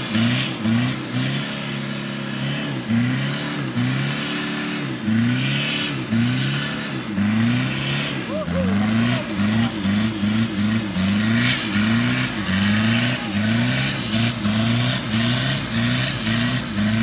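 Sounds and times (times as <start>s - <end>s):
diesel engine revving hard: 0.0s - 17.0s.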